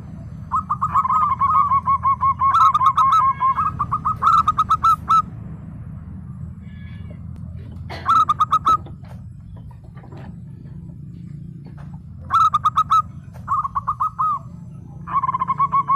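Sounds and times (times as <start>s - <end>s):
dove cooing staccato notes: 0.0s - 5.4s, 7.2s - 15.9s
steady low hum: 0.0s - 15.9s.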